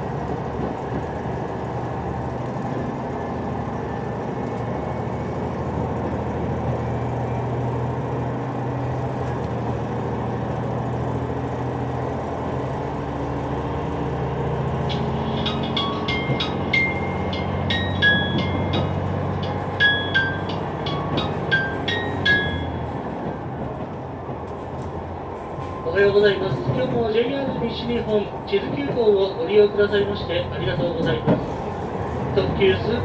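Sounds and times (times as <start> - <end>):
diesel railcar engine drone: 0.0 - 33.0.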